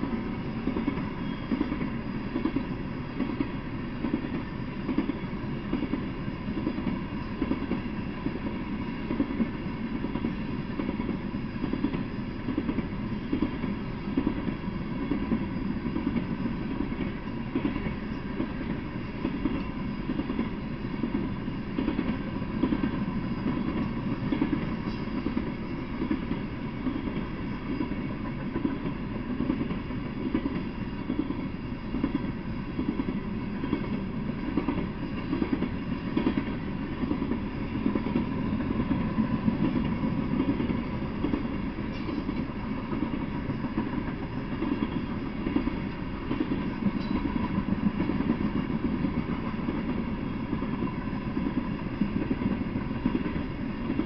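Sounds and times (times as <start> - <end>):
steel wheels rumbling on rail: 0.0 - 54.0
train wheel clacks: 0.0 - 54.0.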